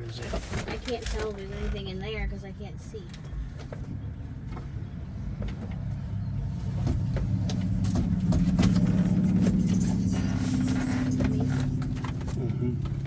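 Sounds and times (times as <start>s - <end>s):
low motor hum: 1.4s - 13.0s.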